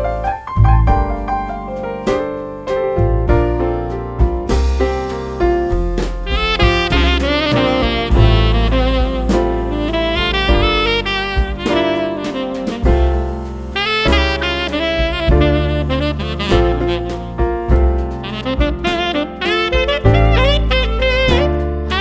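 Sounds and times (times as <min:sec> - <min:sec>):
bass and drums: 0:00.0 - 0:22.0
jazz saxophone melody: 0:00.0 - 0:22.0.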